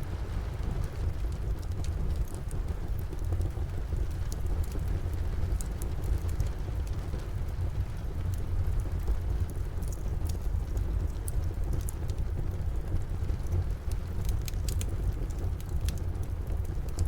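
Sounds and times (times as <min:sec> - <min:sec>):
constant low rumble: 0:00.0 - 0:17.0
wood fire crackling: 0:00.0 - 0:17.0.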